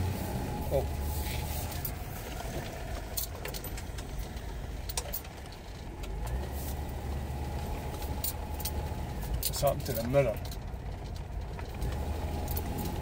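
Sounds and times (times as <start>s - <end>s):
car engine hum inside cabin: 0.0s - 13.0s
light clicks and rattles: 0.7s - 13.0s.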